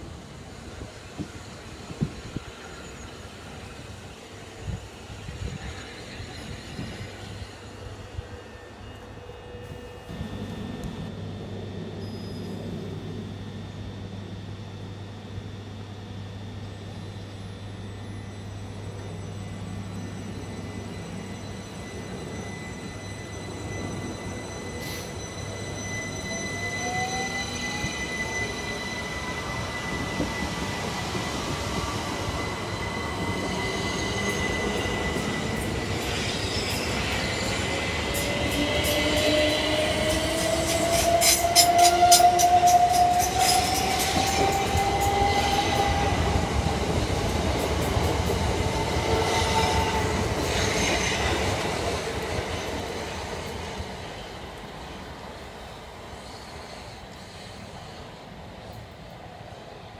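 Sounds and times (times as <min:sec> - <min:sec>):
electric train motors whining: 0:00.1 - 0:52.5.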